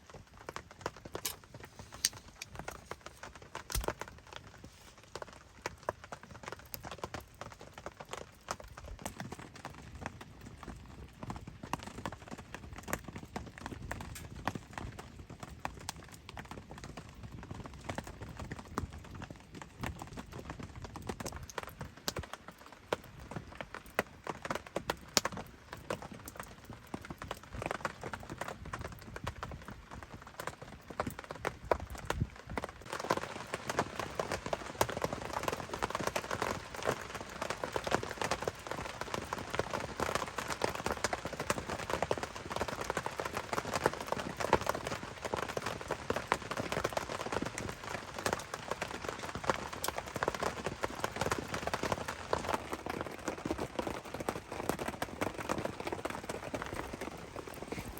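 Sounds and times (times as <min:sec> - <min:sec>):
raindrops tapping on tent fabric: 0:00.0 - 0:57.9.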